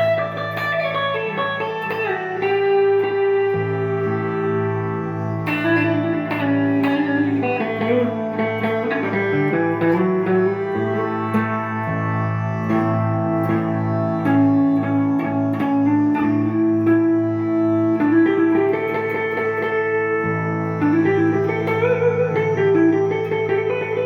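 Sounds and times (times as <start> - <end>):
clean electric guitar melody: 0.0 - 24.0.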